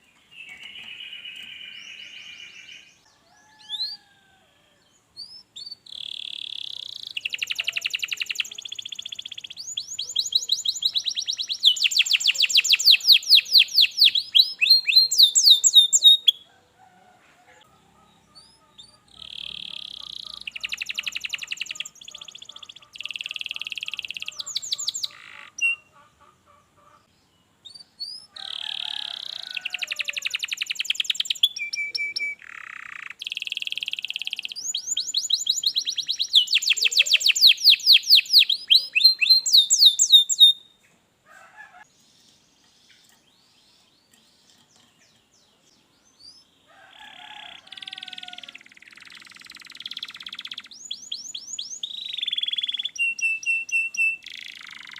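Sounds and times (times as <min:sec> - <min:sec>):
canary singing trills: 0:00.0 - 0:04.3, 0:05.2 - 0:16.5, 0:17.6 - 0:40.8, 0:41.7 - 0:54.9.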